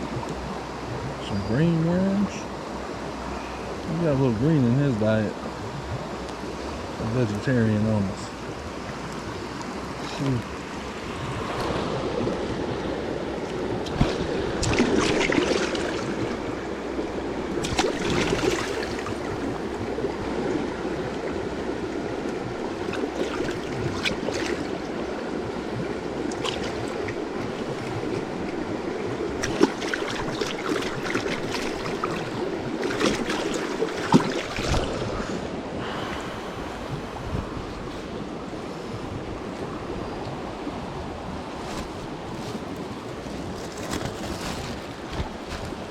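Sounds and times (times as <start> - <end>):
flowing stream water: 0.0 - 45.9
wind buffeting microphone: 3.9 - 45.9.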